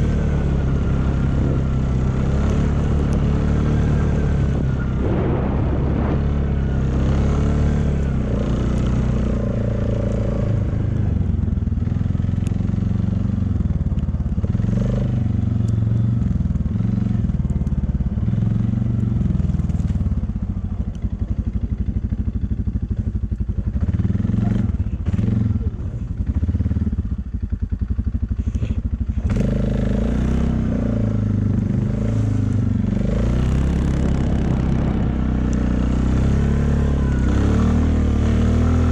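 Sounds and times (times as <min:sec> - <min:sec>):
engine revving: 0:00.0 - 0:20.1, 0:23.8 - 0:27.2, 0:28.4 - 0:38.9.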